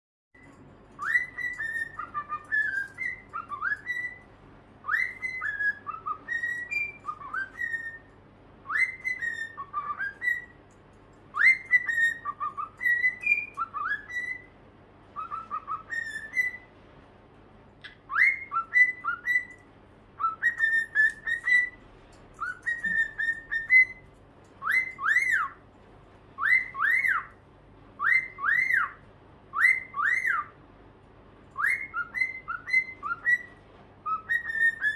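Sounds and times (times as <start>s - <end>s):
birds whistling: 0.4s - 16.8s, 17.8s - 25.7s, 26.3s - 30.7s, 31.5s - 34.9s.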